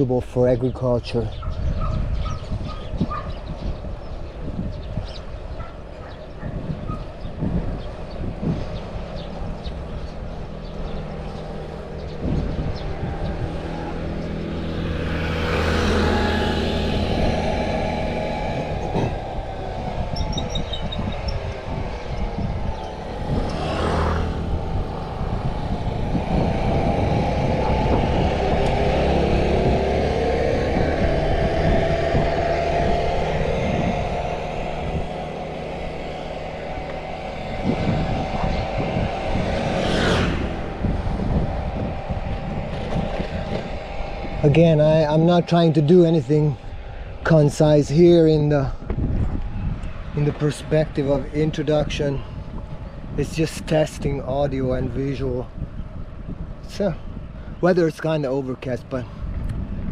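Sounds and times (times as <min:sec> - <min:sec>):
motor vehicles passing: 0:00.0 - 0:59.9
wind and road rush: 0:00.0 - 0:59.9.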